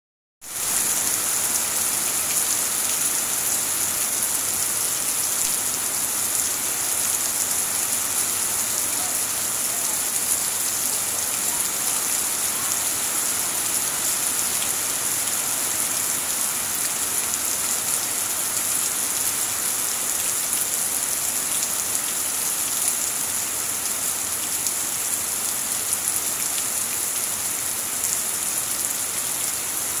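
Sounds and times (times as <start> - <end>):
heavy rain on leaves: 0.4 - 30.0.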